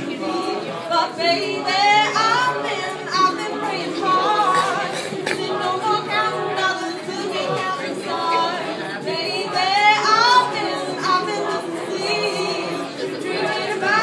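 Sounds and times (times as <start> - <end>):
a cappella choir singing: 0.0 - 14.0
woman singing lead: 0.0 - 14.0.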